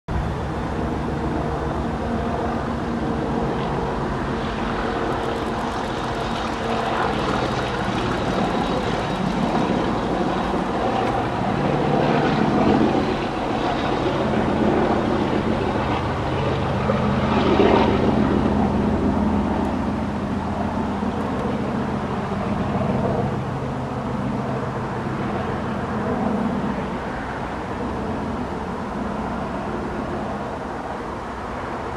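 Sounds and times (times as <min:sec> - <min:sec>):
diesel locomotive engine: 0:00.1 - 0:31.9.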